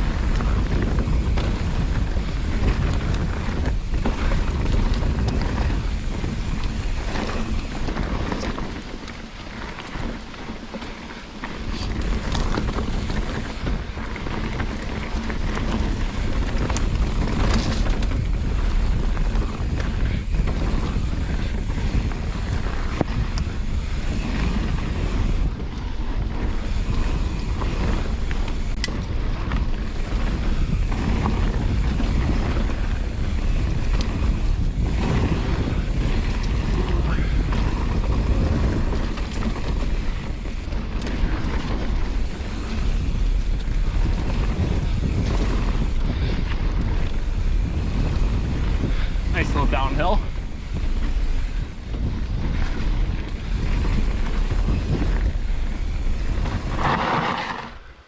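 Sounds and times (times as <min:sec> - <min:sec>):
bike knocking and rattling: 0:00.0 - 0:58.0
wind buffeting microphone: 0:00.0 - 0:58.0.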